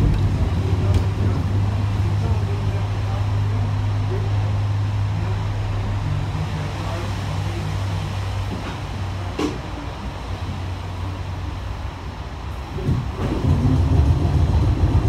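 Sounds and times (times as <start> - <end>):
electric tram hum: 0.0 - 15.0.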